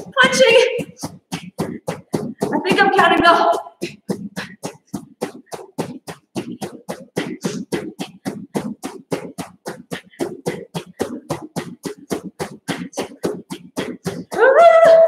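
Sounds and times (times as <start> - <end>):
fists pounding a pillow: 0.0 - 15.0.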